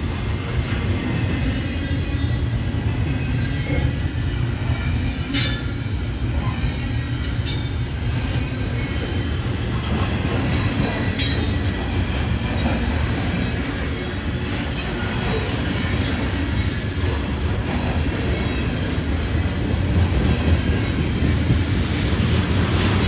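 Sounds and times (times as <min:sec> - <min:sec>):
railroad cars rumbling past: 0:00.0 - 0:23.0.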